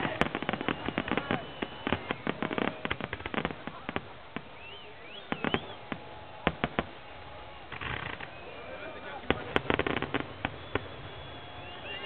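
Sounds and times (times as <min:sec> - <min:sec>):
fireworks bangs: 0:00.0 - 0:12.0
fireworks crackling pops: 0:00.0 - 0:12.0
fireworks whistles: 0:00.0 - 0:12.0.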